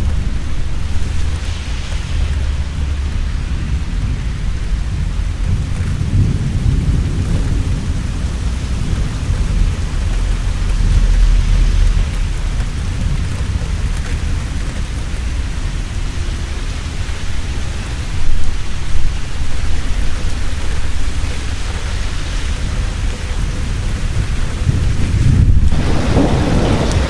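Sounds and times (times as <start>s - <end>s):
heavy rain falling: 0.0s - 27.0s
thunder rumbling: 0.0s - 27.0s.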